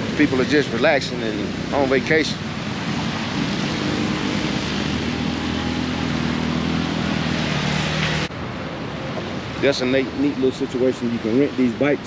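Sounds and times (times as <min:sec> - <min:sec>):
road traffic passing: 0:00.0 - 0:12.0
vehicle engine hum: 0:00.0 - 0:12.0.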